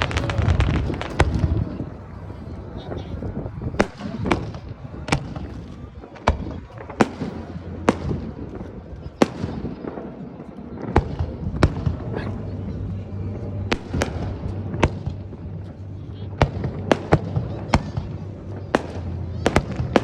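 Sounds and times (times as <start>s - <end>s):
fireworks bangs: 0.0s - 15.7s, 16.4s - 20.0s.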